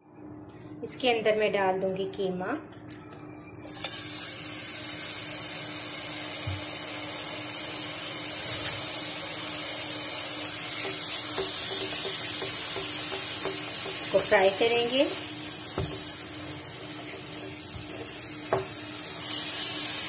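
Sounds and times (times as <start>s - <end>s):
meat sizzling in oil: 3.7s - 20.0s.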